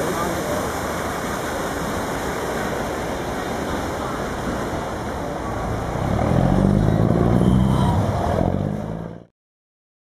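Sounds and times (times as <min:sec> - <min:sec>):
churned water rushing: 0:00.0 - 0:09.3.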